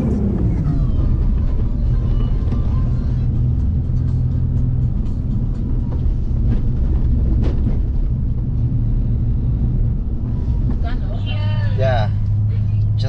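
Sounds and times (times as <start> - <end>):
car interior engine and road rumble: 0.0 - 13.0.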